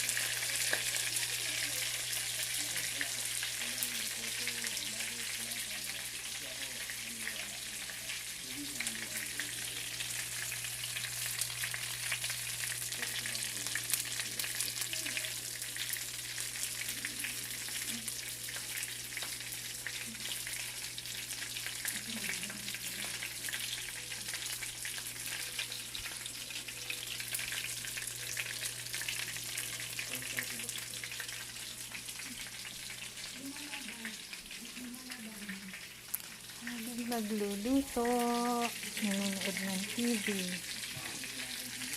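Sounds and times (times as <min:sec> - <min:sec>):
chicken frying in hot oil: 0:00.0 - 0:41.9.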